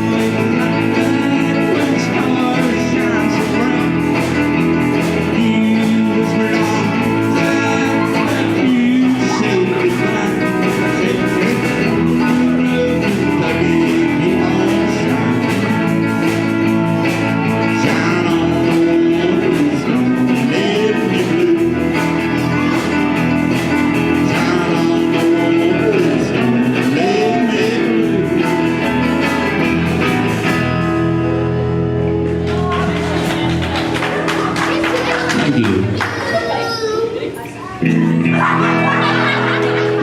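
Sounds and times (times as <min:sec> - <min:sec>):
drums with steady beat: 0:00.0 - 0:35.6
bass: 0:00.0 - 0:40.0
electric guitar bending notes: 0:00.0 - 0:40.0.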